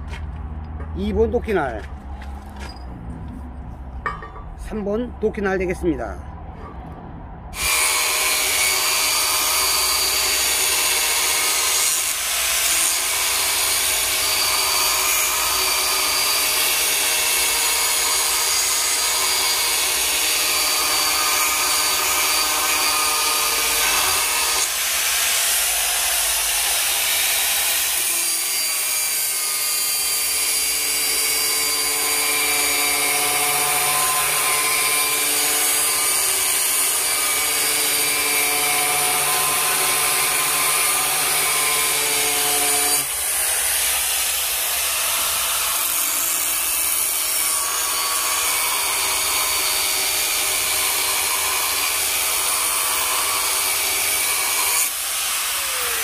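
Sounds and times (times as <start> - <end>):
angle grinder grinding steel: 7.6 - 56.0.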